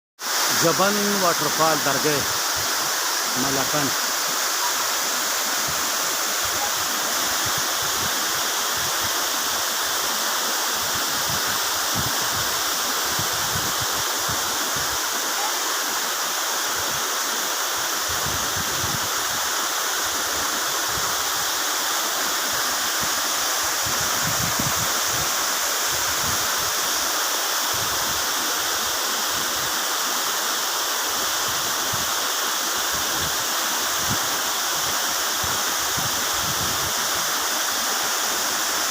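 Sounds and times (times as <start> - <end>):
waterfall roar: 0.2 - 38.9.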